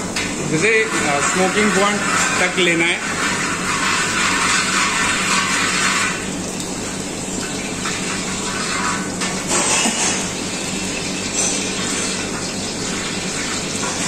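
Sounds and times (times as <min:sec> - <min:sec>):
hot oil hissing in pan: 0:00.0 - 0:14.0.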